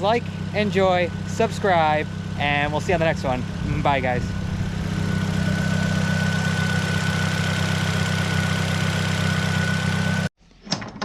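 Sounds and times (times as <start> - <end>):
car engine idling with high whine: 0.0 - 10.3.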